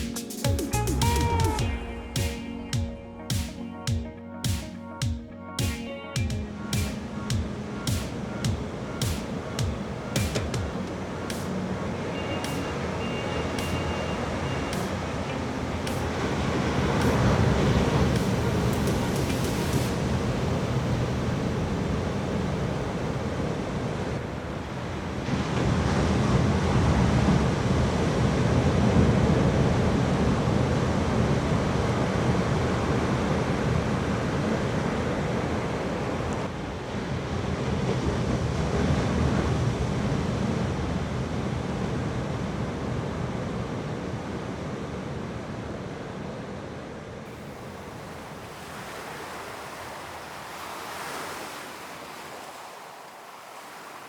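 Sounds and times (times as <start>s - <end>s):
ocean surf washing in: 5.6s - 54.0s.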